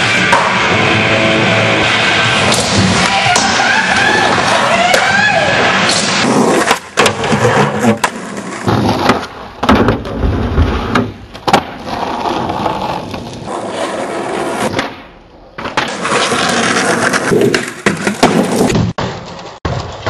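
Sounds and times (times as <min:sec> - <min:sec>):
skateboard wheels rolling: 0:00.0 - 0:20.0.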